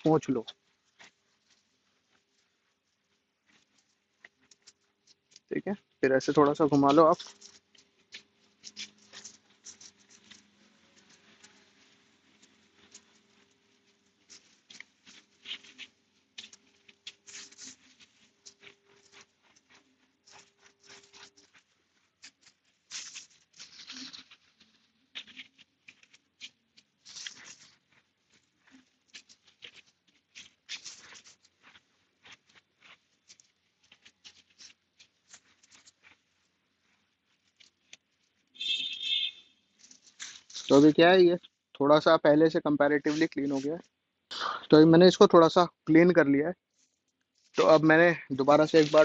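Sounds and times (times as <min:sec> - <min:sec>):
cloth rubbing motorcycle chain: 0:00.0 - 0:49.0.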